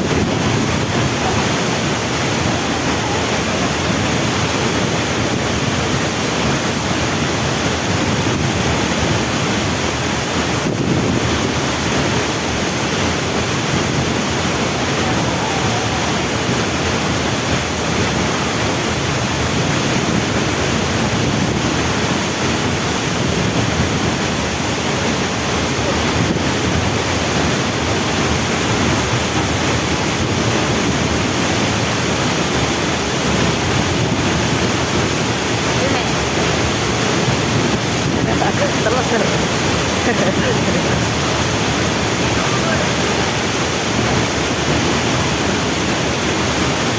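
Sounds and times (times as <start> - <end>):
waterfall rushing: 0.0 - 46.9
wind on microphone: 0.0 - 46.9.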